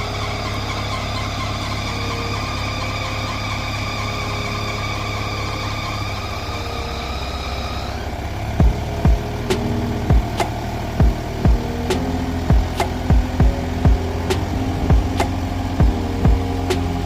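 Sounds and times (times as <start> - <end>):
bulldozer diesel engine running: 0.0 - 17.0
high whine: 0.0 - 17.0.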